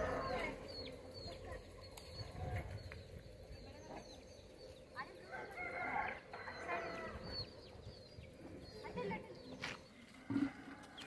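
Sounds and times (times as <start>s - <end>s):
birds chirping: 0.0s - 11.0s
distant voices: 0.0s - 11.0s.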